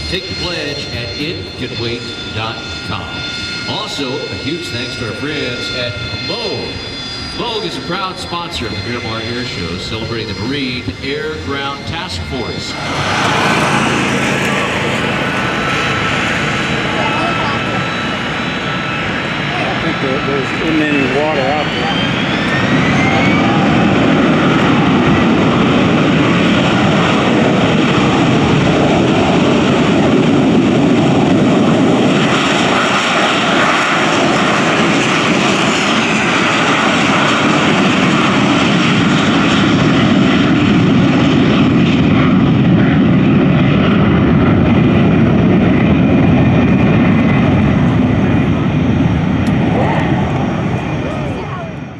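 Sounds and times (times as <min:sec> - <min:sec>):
jet engine roar with whine: 0:00.0 - 0:51.9.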